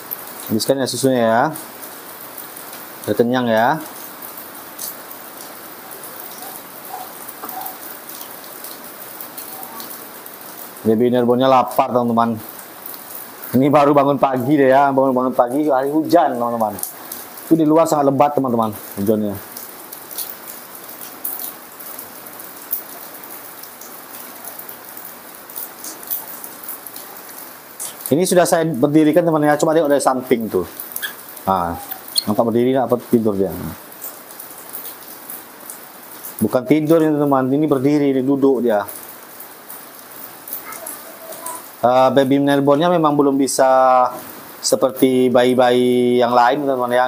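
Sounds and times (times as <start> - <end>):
heavy rain pouring: 0.0 - 47.0.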